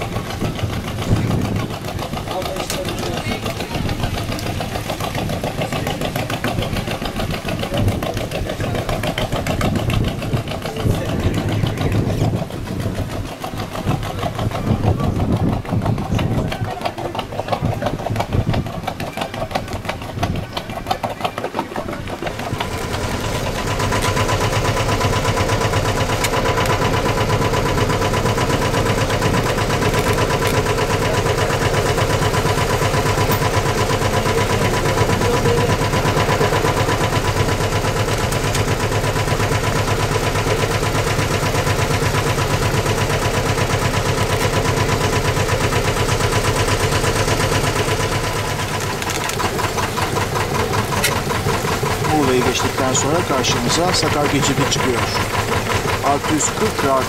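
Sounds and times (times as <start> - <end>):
boat engine chugging: 0.0 - 57.0.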